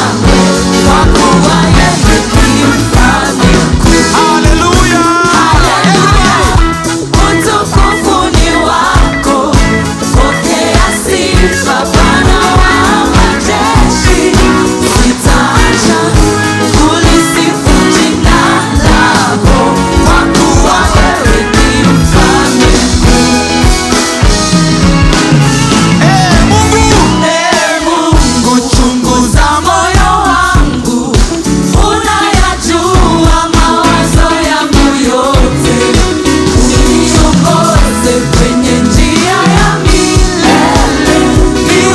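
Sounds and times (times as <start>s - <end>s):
band with steady beat: 0.0s - 41.9s
voices singing gospel: 0.0s - 41.9s.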